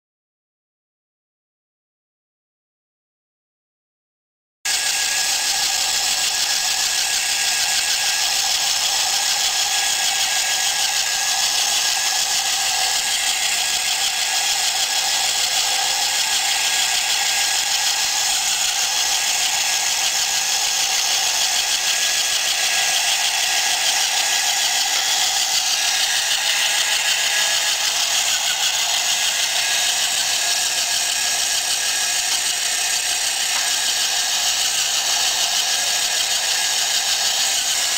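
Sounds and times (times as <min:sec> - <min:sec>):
electric motor whirring: 0:04.7 - 0:37.9
gear and track rattle: 0:04.7 - 0:37.9.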